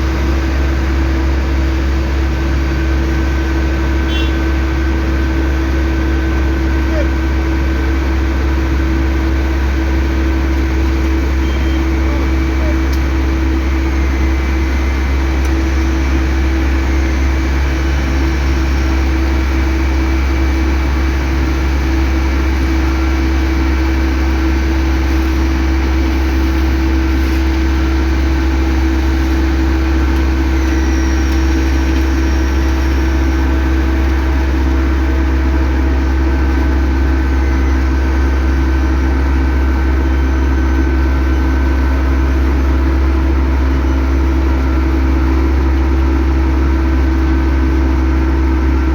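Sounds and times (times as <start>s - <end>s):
heavy machinery engine rumbling: 0.0s - 48.9s.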